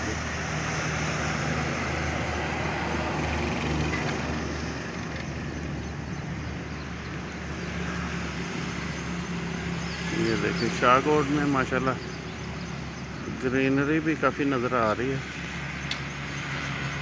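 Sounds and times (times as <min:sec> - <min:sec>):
distant road traffic: 0:00.0 - 0:17.0
low engine drone: 0:00.0 - 0:17.0.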